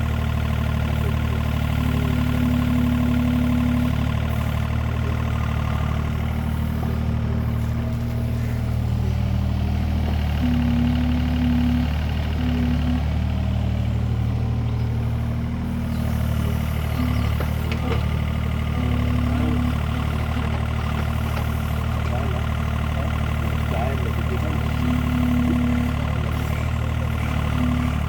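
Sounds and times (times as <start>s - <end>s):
diesel engine running: 0.0s - 28.0s
higher engine tone: 0.0s - 28.0s.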